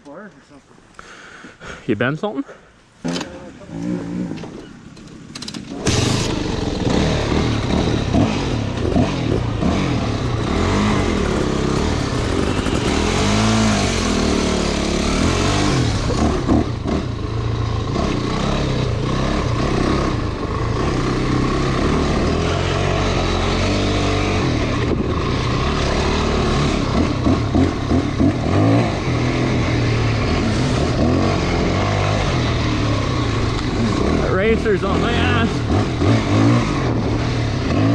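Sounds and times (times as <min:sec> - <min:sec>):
motorcycle engine revving: 0:03.1 - 0:37.9.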